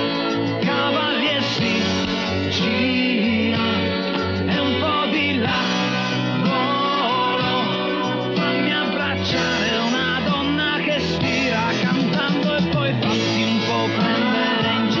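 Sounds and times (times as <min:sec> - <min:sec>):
bass line: 0:00.0 - 0:15.0
guitar: 0:00.0 - 0:15.0
sliding lead melody: 0:00.0 - 0:15.0.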